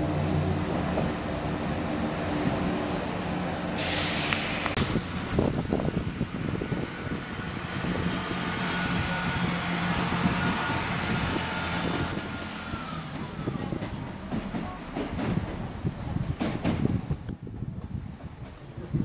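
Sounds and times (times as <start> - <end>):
train engine drone: 0.0 - 19.0
wheel and rail rumble: 0.0 - 19.0.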